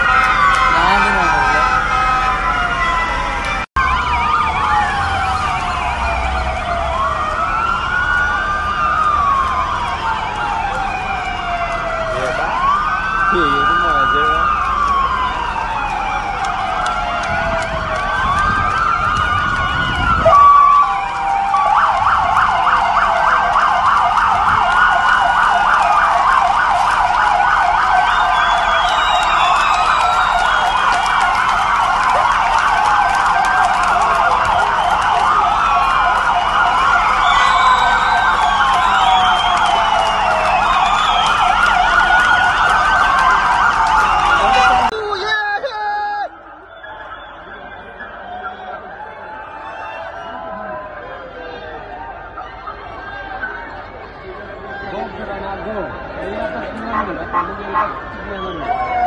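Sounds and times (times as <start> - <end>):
fast siren yelp: 0.0 - 55.3, 56.0 - 59.0
police sirens wailing: 0.0 - 59.0.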